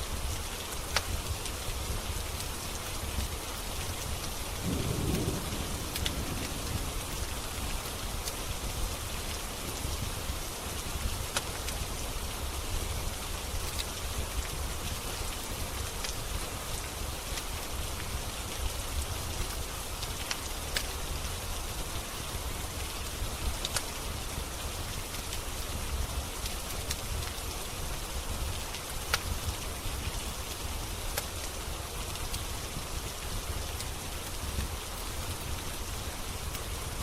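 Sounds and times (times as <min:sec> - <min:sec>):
steady rain falling: 0:00.0 - 0:37.0
wood fire crackles: 0:00.0 - 0:37.0.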